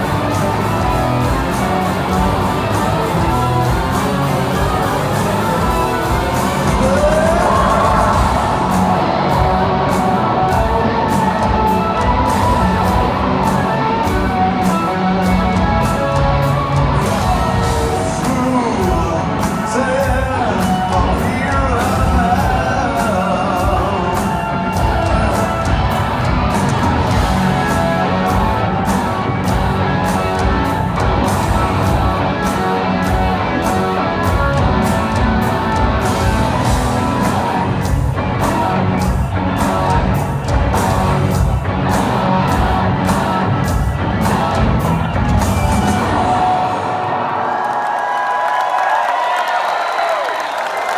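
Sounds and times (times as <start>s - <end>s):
live rock band playing: 0.0s - 47.4s
person singing: 0.0s - 47.5s
driving drumbeat: 0.0s - 47.8s.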